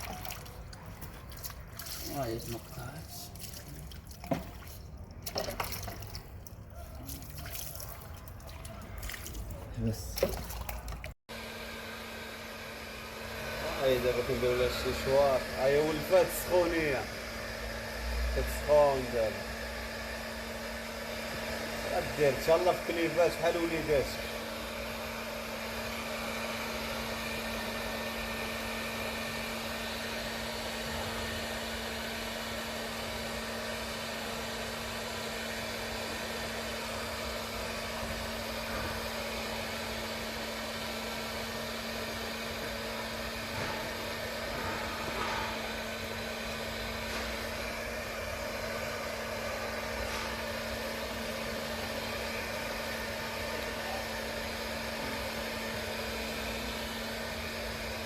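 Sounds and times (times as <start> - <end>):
hair dryer running: 11.3 - 58.0.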